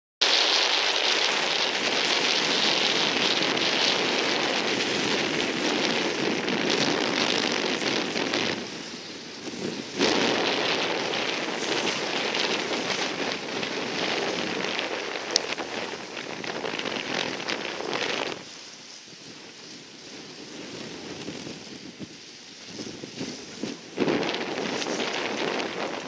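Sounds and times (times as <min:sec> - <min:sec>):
strong wind on microphone: 0:00.2 - 0:26.0.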